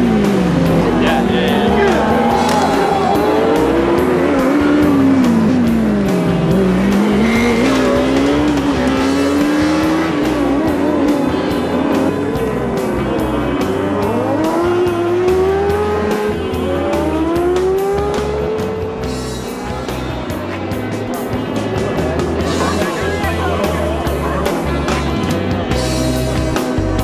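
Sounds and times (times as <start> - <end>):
race car engine revving: 0.0 - 26.9
background music with steady beat: 0.0 - 27.0.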